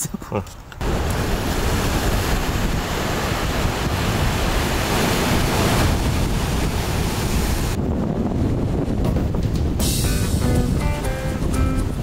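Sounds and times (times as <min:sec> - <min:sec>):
sea surf breaking on rocks: 0:00.8 - 0:12.0
wind buffeting microphone: 0:00.8 - 0:12.0.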